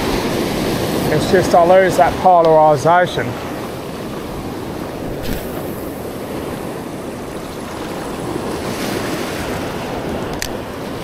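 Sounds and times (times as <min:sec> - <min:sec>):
ocean surf washing on sand: 0:00.0 - 0:11.0
wind buffeting microphone: 0:00.0 - 0:11.0.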